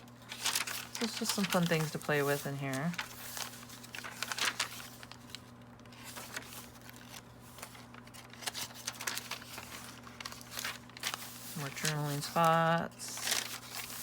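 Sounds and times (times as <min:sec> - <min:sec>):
paper pages rustling: 0:00.0 - 0:14.0.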